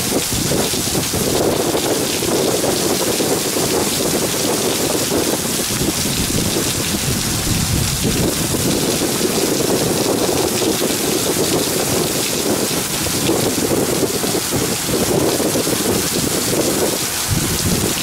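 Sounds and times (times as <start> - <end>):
heavy rain on metal deck: 0.0 - 18.0.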